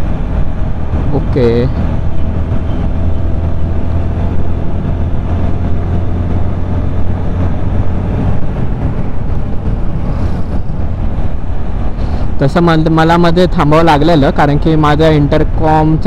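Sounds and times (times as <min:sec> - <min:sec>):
motorcycle engine drone: 0:00.0 - 0:16.0
wind rushing on microphone: 0:00.0 - 0:16.0.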